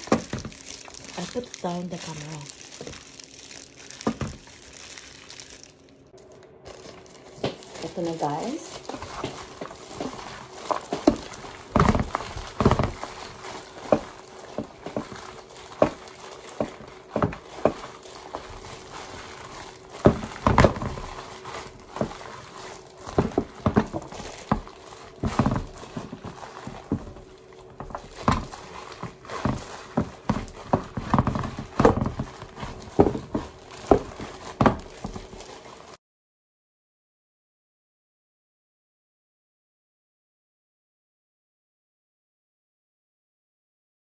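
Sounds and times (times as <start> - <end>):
hands kneading meat mixture: 0.0 - 36.0.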